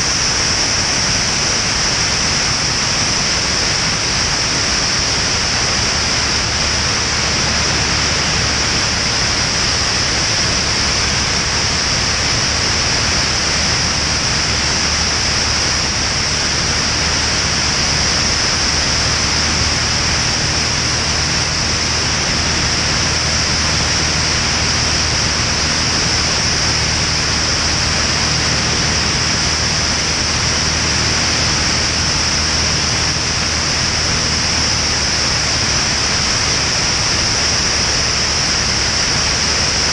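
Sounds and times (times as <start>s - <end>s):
piston engine and propeller drone: 0.0s - 39.9s
rush of airflow: 0.0s - 39.9s.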